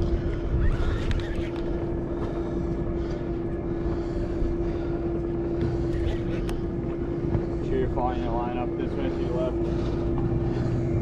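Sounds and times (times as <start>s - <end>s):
boat machinery droning: 0.0s - 11.0s
low rumble: 0.0s - 11.0s.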